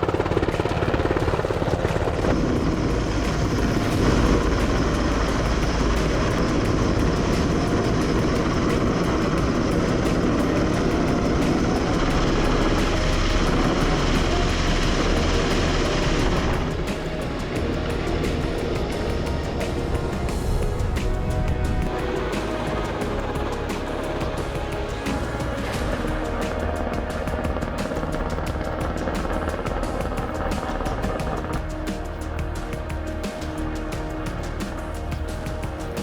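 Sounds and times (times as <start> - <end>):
helicopter rotor chop: 0.0 - 36.0.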